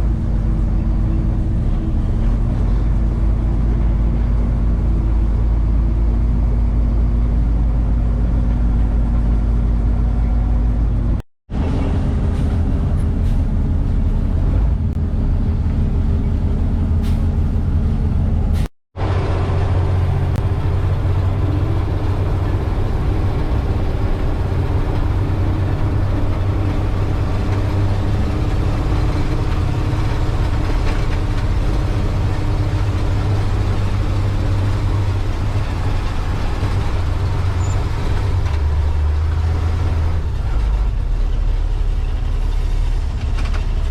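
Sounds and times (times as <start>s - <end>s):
diesel machinery engine drone: 0.0s - 43.9s.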